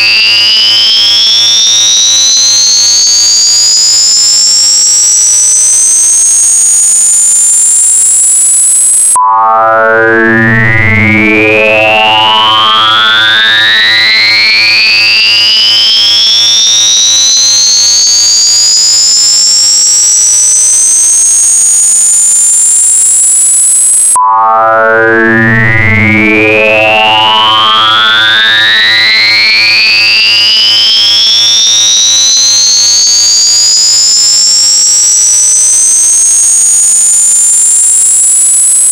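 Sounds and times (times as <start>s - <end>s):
rising electronic tone sweep: 0.2s - 14.6s, 15.5s - 38.9s.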